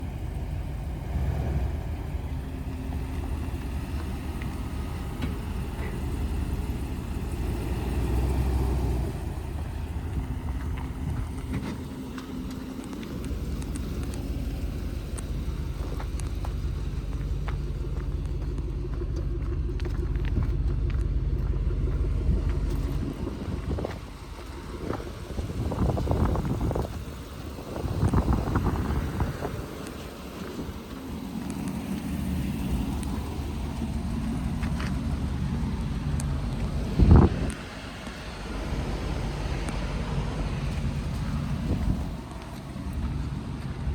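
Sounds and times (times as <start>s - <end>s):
pickup truck engine idling: 0.0s - 43.9s.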